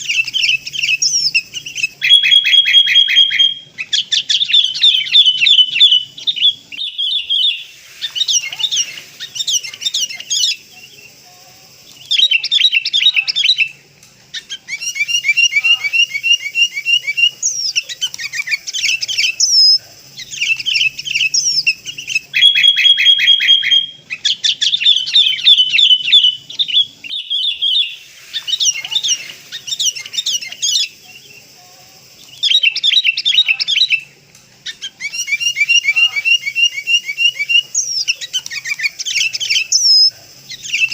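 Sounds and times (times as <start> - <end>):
bulbuls chattering calls: 0.0 - 40.9.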